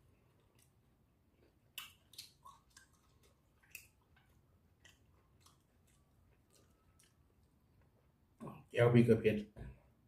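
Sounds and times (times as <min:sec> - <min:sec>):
man chewing food: 0:00.0 - 0:08.4.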